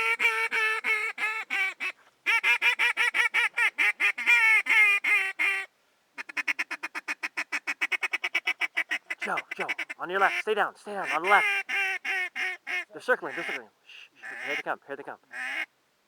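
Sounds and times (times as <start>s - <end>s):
goose honking: 0.0s - 14.8s.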